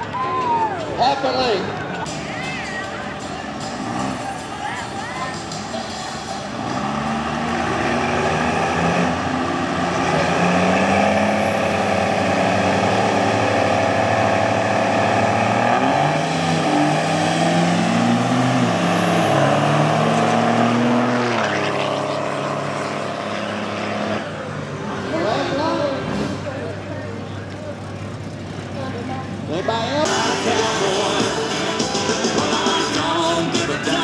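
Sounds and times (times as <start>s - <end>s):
pickup truck engines accelerating: 0.0s - 34.0s.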